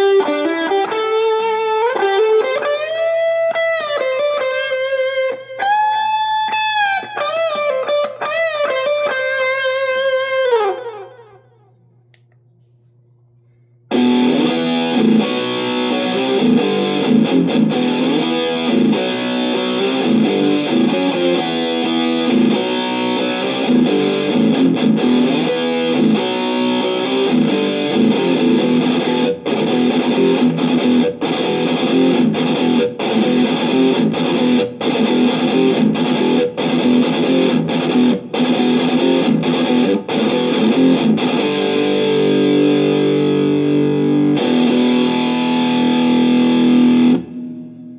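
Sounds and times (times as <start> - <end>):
distorted electric guitar: 0.0 - 11.6, 13.9 - 47.9.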